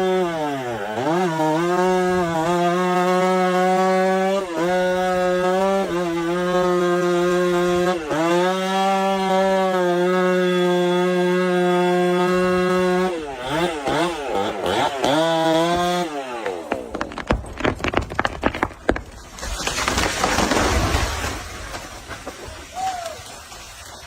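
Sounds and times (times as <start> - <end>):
chainsaw sawing into tree trunk: 0.0 - 24.0.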